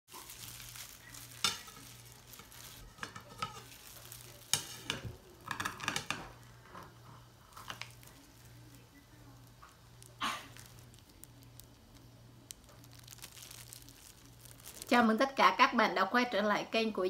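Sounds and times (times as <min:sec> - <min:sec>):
fried noodles crunching: 0:00.1 - 0:15.1
faint low hum: 0:00.1 - 0:17.0.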